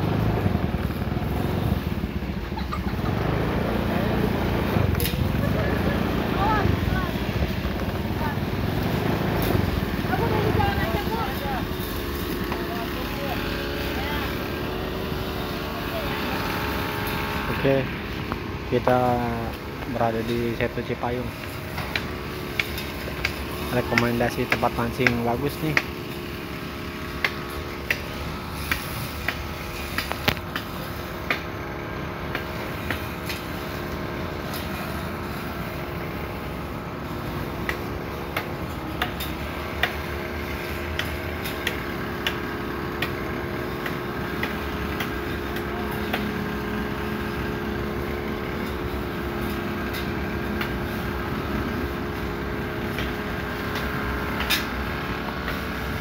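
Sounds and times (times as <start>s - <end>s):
outdoor background hum: 0.0s - 56.0s.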